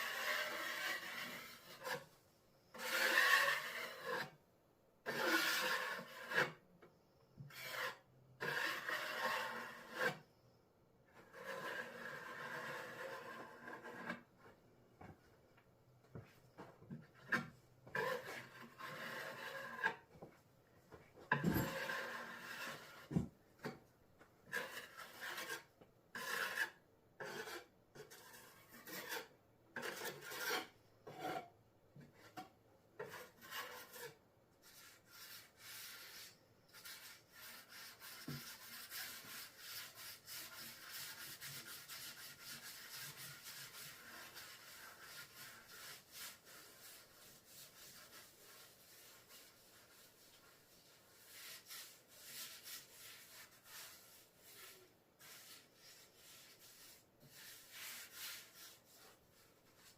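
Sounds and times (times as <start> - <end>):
blade scraping cement slurry: 0.0 - 2.1, 2.7 - 4.4, 5.1 - 6.6, 7.5 - 10.2, 11.2 - 14.3, 17.3 - 20.0, 21.6 - 23.8, 24.5 - 31.5, 33.0 - 59.2.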